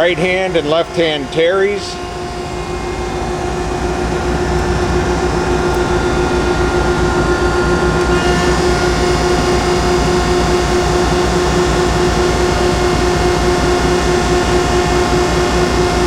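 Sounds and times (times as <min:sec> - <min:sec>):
grinder humming with whine: 0:00.0 - 0:16.0.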